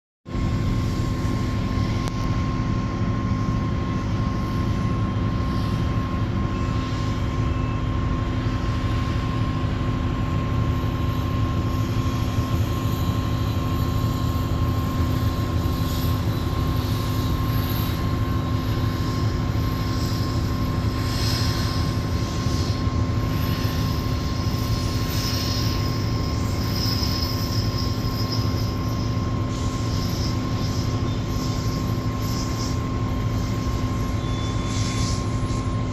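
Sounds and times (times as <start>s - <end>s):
constant engine whine: 0.3s - 35.9s.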